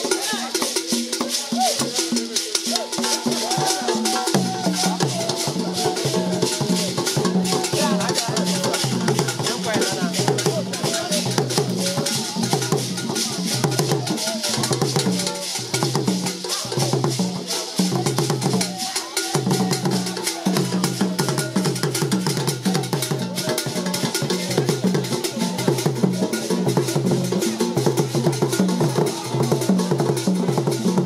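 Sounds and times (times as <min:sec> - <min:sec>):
clicking rattle percussion: 0:00.0 - 0:31.0
pitched drum tones: 0:00.0 - 0:31.0.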